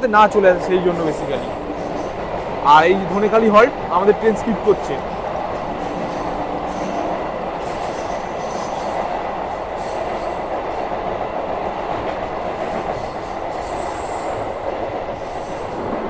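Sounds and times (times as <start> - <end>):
rumble of train wheels on rails: 0.0 - 16.0.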